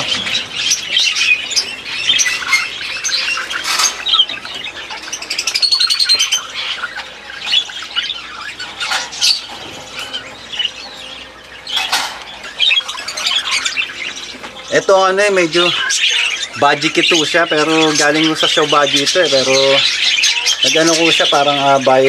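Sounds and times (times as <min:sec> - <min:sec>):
budgerigars chirping and chattering: 0:00.0 - 0:22.0.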